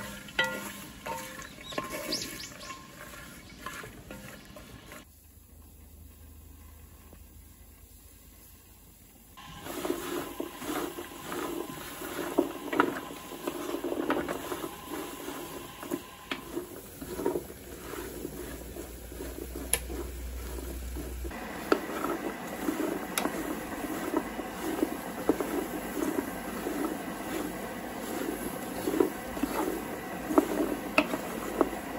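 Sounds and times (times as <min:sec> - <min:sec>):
roots clicking on pan: 0:00.0 - 0:05.0, 0:09.7 - 0:31.9
roots rattling and scraping in pan: 0:00.0 - 0:05.1, 0:09.4 - 0:31.9.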